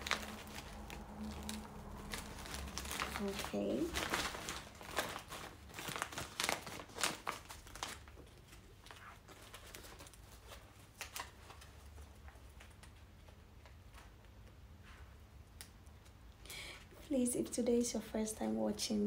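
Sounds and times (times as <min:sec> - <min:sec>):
stiff fabric crinkling and rustling: 0:00.0 - 0:15.3.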